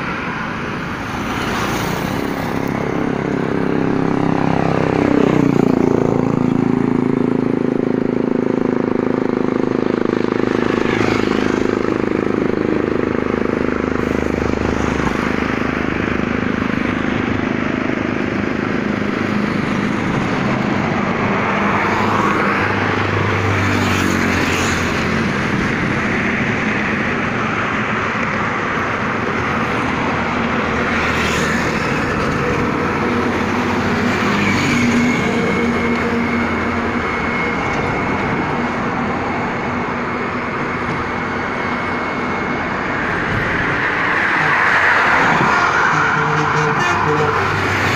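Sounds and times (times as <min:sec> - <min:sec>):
traffic roar: 0:00.0 - 0:47.9
truck diesel engine droning: 0:00.0 - 0:47.9.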